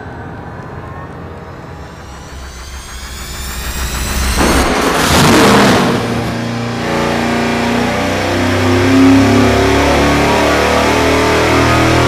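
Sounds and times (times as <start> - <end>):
engine revving at full throttle: 1.4 - 12.0.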